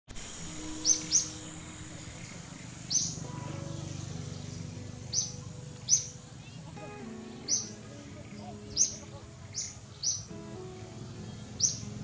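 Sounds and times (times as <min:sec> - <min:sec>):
bird chirping: 0:00.2 - 0:12.0.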